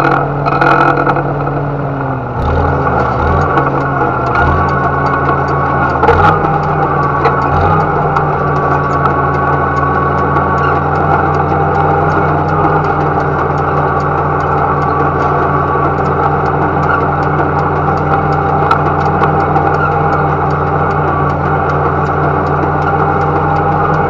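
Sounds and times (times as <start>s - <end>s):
tractor engine running: 0.0s - 24.0s
faint rapid ticking: 2.4s - 24.0s.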